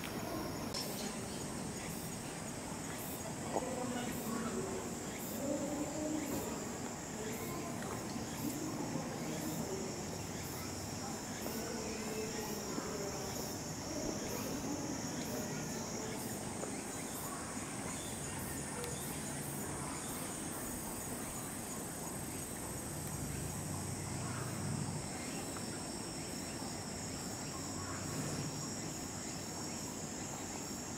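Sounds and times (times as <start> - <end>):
insects chirring: 0.0 - 30.9.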